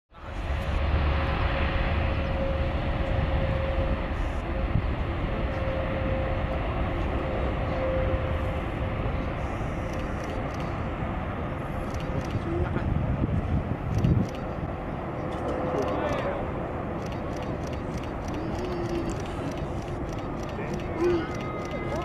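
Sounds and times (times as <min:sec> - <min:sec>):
jet engine roar with whine: 0:00.1 - 0:22.0.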